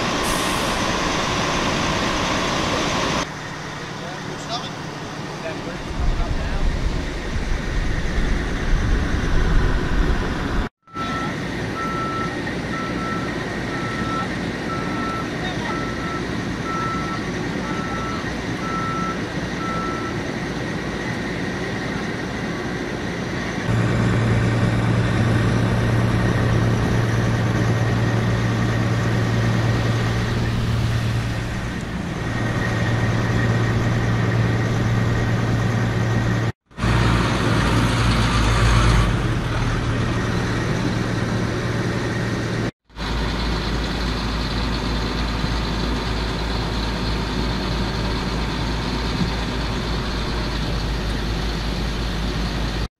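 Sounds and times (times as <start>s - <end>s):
truck engines idling: 0.0s - 52.9s.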